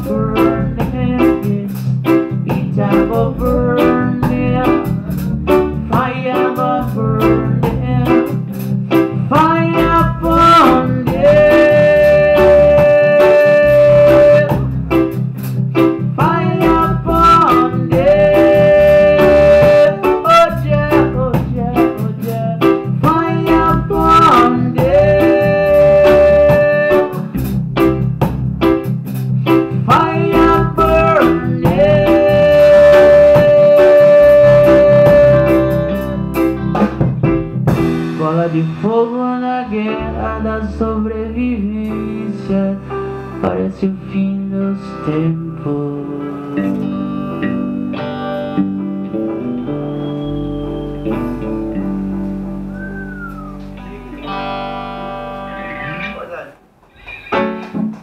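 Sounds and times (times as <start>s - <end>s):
live band playing instrumental: 0.0s - 39.2s, 41.6s - 44.3s, 44.9s - 56.4s
long held lead notes: 2.6s - 56.2s.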